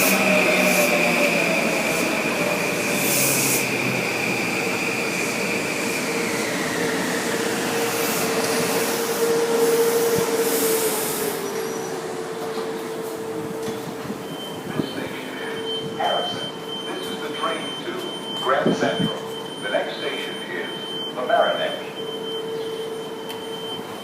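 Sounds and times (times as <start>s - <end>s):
train brakes squealing: 0.0s - 12.8s, 13.6s - 24.0s.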